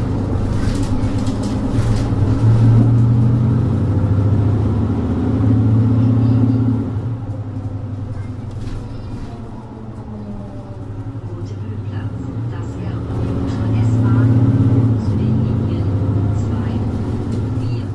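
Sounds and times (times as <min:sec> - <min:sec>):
bus diesel engine under load: 0:00.0 - 0:17.9.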